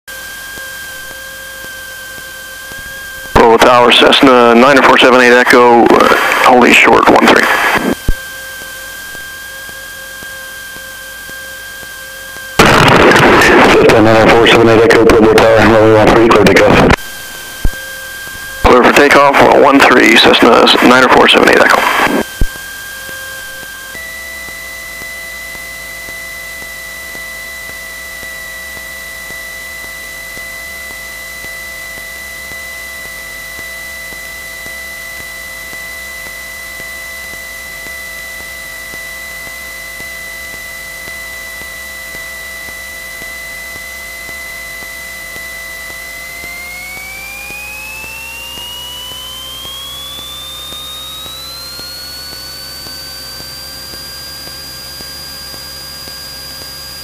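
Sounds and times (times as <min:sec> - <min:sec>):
light aircraft engine and propeller: 0:00.1 - 0:57.0.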